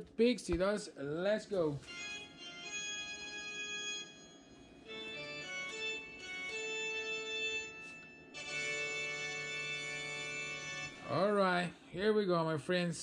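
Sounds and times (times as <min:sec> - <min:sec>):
organ-like keyboard chords: 0:00.0 - 0:11.9.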